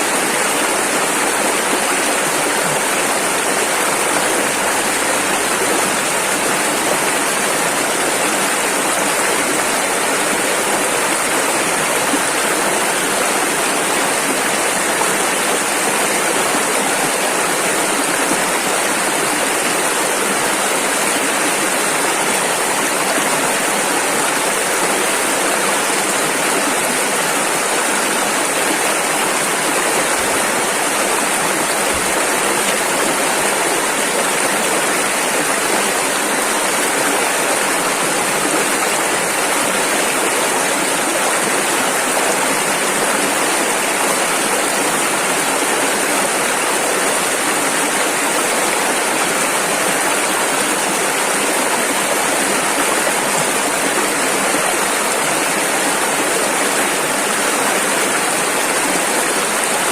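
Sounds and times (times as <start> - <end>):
rushing river rapids: 0.0 - 59.9.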